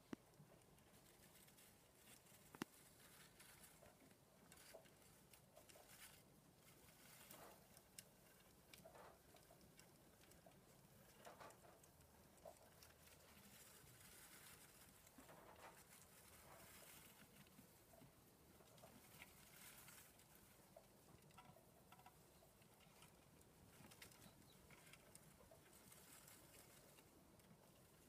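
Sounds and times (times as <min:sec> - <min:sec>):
mice rustling in bedding: 0:00.0 - 0:28.0.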